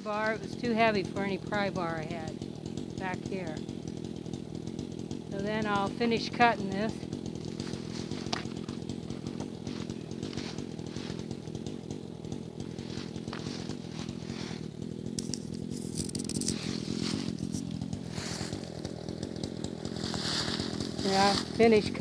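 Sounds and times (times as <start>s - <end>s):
chainsaw cutting through log: 0.0s - 22.0s.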